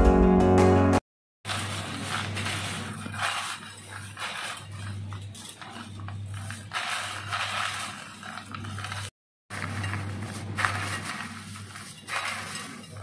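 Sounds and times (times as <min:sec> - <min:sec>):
crispy fried snack rustling: 0:01.5 - 0:13.0.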